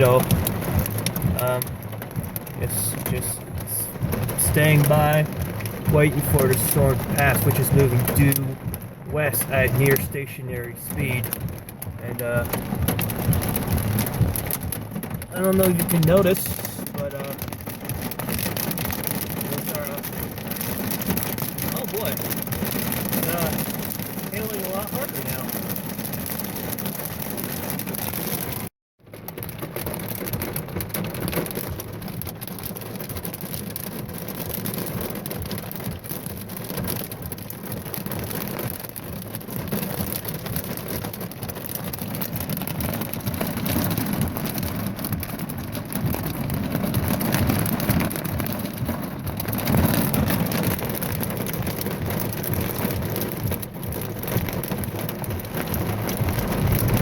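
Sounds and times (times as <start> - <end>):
hail and rain on car roof: 0.0 - 57.0.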